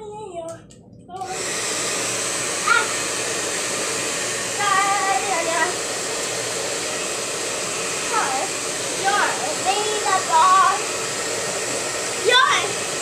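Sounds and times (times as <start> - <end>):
hair dryer blowing: 1.2 - 13.0.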